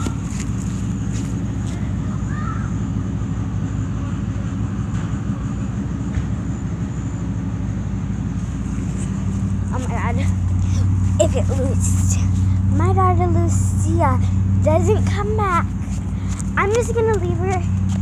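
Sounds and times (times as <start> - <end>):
low mechanical hum and rumble: 0.0 - 18.0.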